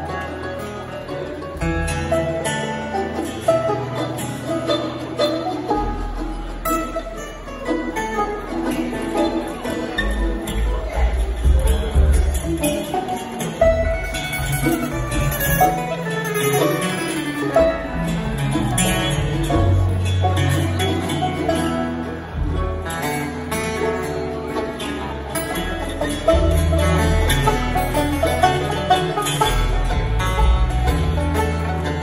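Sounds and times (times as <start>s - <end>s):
banjo picking: 0.0s - 32.0s
fiddle: 0.0s - 32.0s
guitars picking: 0.0s - 32.0s
upright bass: 0.0s - 32.0s.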